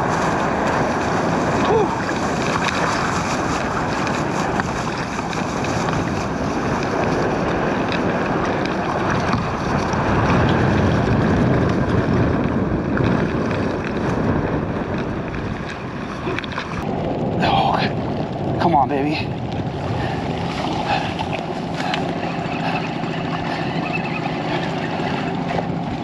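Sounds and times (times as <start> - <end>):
water lapping at kayak: 0.0 - 26.0
wind buffeting microphone: 0.0 - 26.0.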